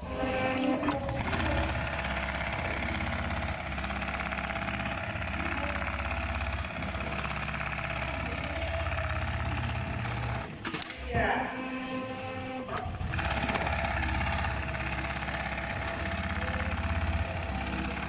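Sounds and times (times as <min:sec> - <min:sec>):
sewing machine stitching: 0:00.0 - 0:18.0.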